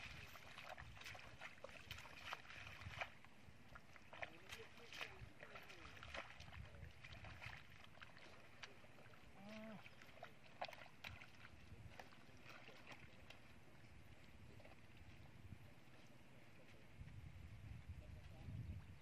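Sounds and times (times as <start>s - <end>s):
footsteps squelching in mud: 0.0s - 15.3s.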